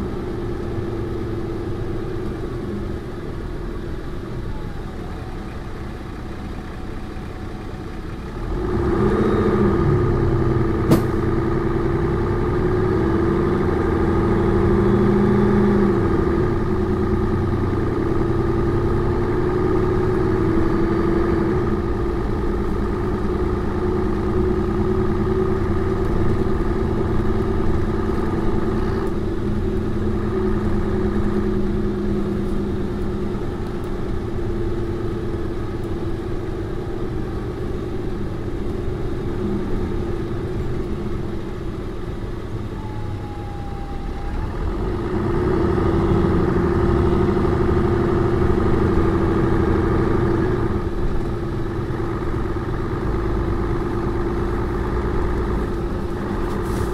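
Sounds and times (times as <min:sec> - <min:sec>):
bus diesel engine running: 0:00.0 - 0:56.9.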